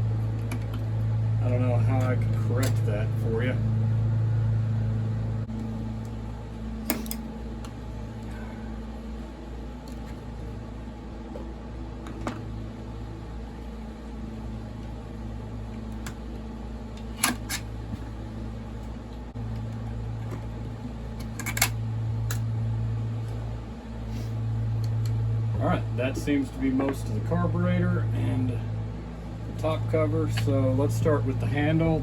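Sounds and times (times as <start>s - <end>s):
lawn mower droning: 0.0s - 32.0s.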